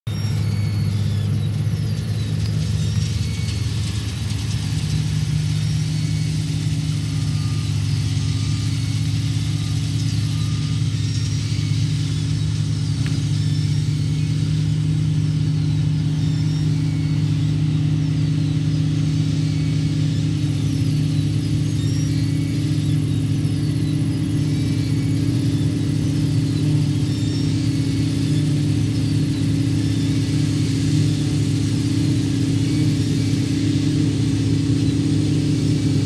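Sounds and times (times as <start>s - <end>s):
combine harvester drone: 0.0s - 36.0s.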